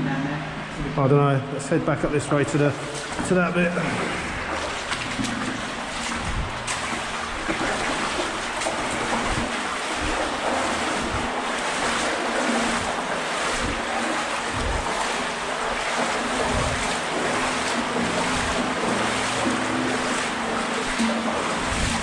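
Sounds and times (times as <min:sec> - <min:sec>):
water rushing through tunnel: 0:00.0 - 0:22.0.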